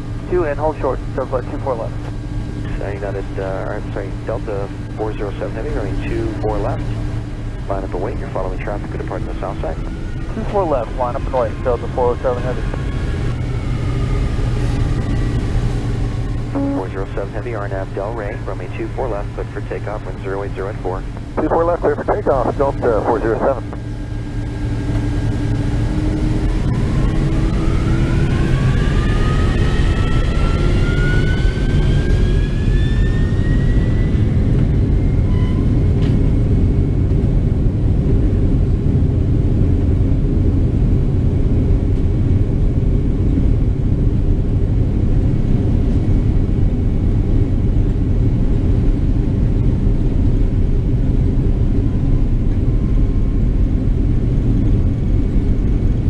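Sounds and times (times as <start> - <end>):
jet engine and runway rumble: 0.0 - 56.0
jet engine whine: 0.0 - 56.0.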